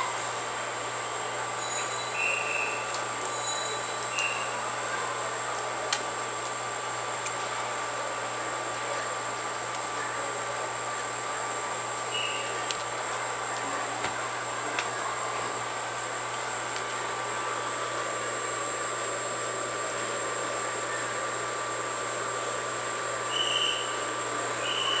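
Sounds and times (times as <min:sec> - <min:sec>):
mechanical hum and hiss: 0:00.0 - 0:25.0.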